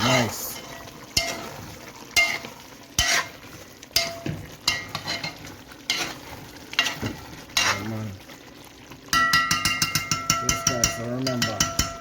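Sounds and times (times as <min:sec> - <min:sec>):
utensil scraping and knocking pot: 0:00.0 - 0:08.0, 0:09.1 - 0:12.0
chicken sizzling in a pot: 0:00.0 - 0:12.0.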